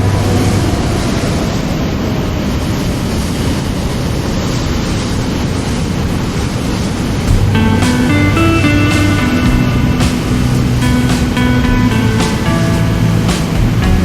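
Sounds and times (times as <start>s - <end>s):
airplane cabin engine rush: 0.0s - 14.0s.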